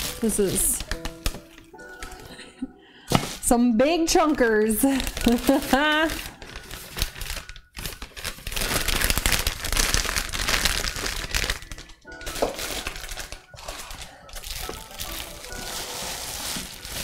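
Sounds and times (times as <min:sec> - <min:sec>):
plastic packaging crinkling: 0:00.0 - 0:02.4, 0:04.1 - 0:17.0.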